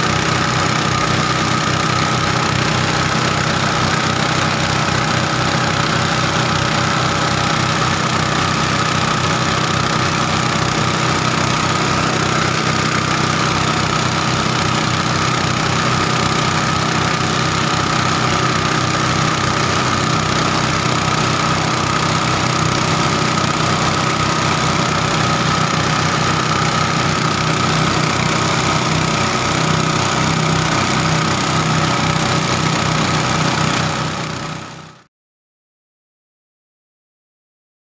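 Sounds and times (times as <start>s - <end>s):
engine idling: 0.0s - 35.1s.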